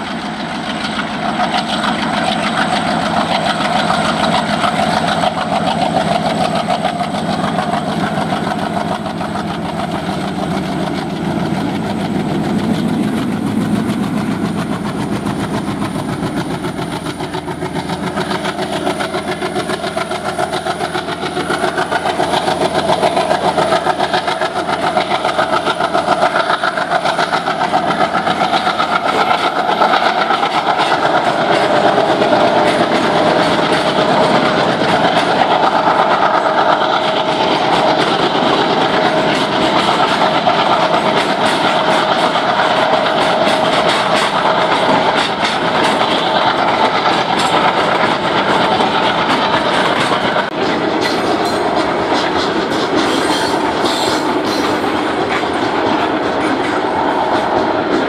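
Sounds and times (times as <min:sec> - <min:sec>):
diesel locomotives chugging: 0:00.0 - 0:58.0
wagon wheels clattering over rail joints: 0:00.2 - 0:58.0.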